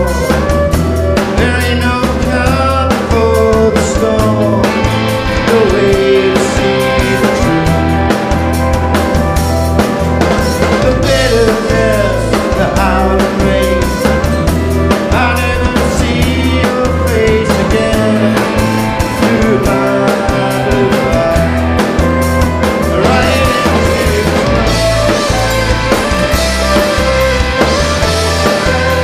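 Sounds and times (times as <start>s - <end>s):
acoustic guitar: 0.0s - 29.0s
drum kit beat: 0.0s - 29.0s
electric guitar: 0.0s - 29.0s.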